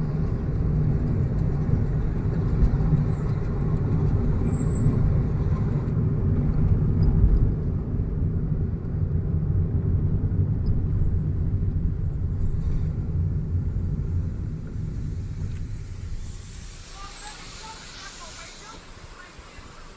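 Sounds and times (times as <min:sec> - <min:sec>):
car driving on road: 0:00.0 - 0:19.9.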